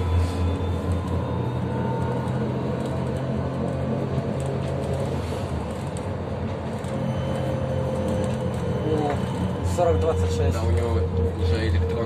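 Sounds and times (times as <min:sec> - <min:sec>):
trolleybus cabin hum: 0:00.0 - 0:12.0.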